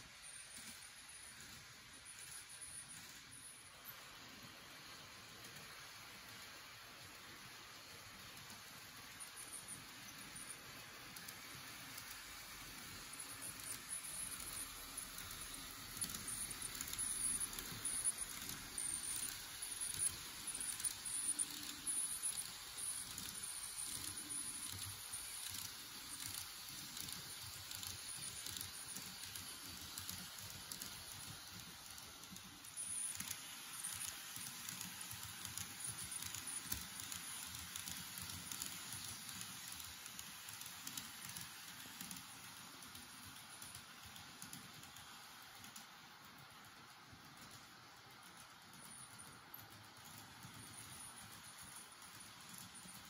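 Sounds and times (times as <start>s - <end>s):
model train wheels clicking: 0.0s - 53.0s.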